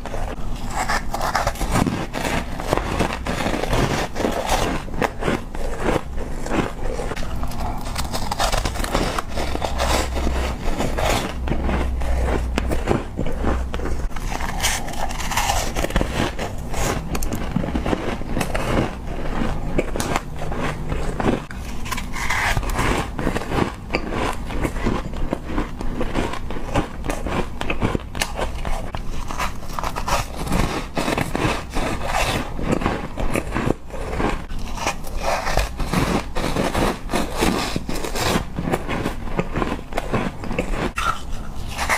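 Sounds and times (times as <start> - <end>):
ice being chewed: 0.0 - 41.9.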